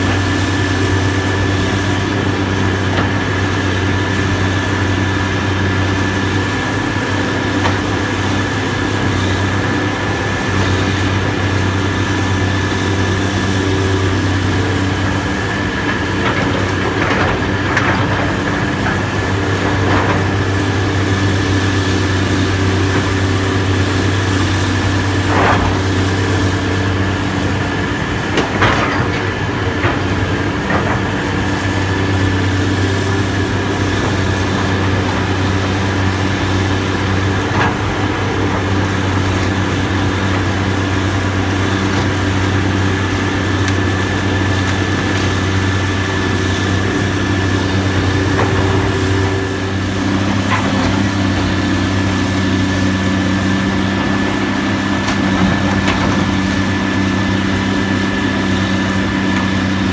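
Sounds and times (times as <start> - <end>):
constant high whine: 0.0 - 59.9
diesel machinery engine drone: 0.0 - 59.9.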